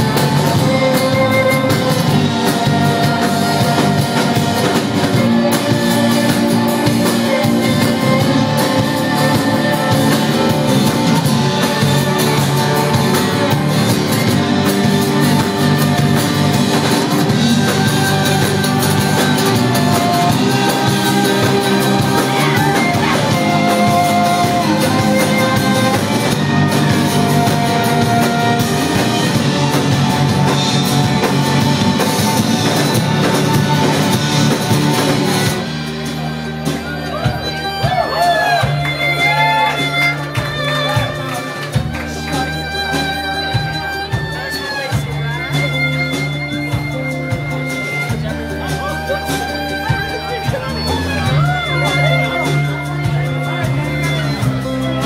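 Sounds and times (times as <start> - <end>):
indie rock band playing live: 0.0 - 55.0.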